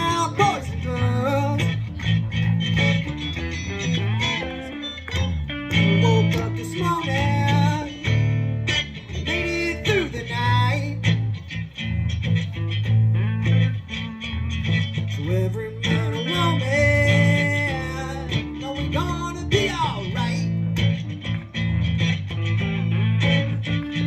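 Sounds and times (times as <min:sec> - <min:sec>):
bending lead notes: 0:00.0 - 0:24.0
pulsing bass line: 0:00.0 - 0:24.0.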